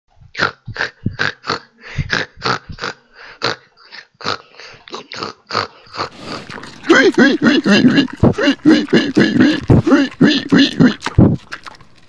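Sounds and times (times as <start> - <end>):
pig grunting: 0.4 - 11.8.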